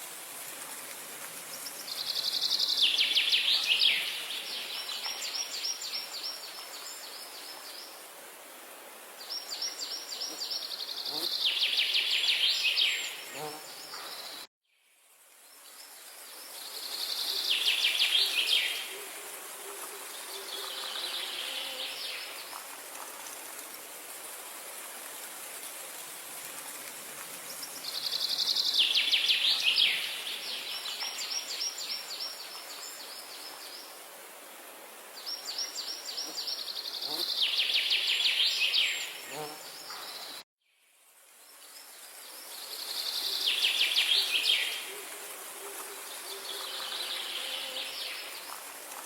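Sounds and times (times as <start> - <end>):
background hiss: 0.0 - 49.0.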